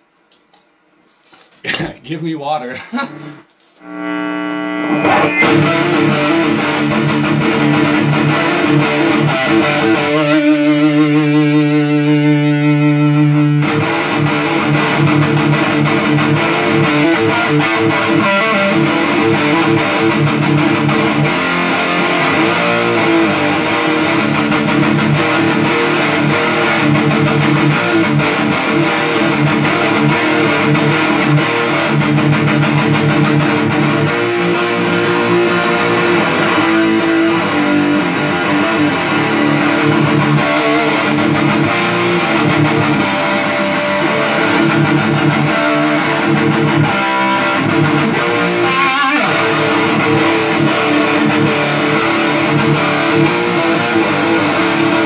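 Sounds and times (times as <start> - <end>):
fuzz electric guitar riffing: 2.4 - 55.0
guitar chord ringing with wavering pitch: 3.8 - 55.0.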